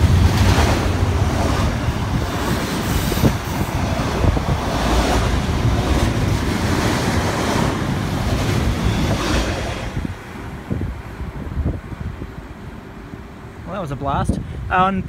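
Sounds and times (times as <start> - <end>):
freight train rushing past: 0.0 - 13.7.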